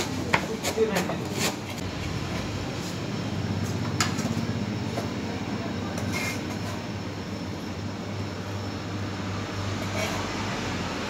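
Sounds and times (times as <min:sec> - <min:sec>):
low hum and rumble: 0:01.8 - 0:11.0.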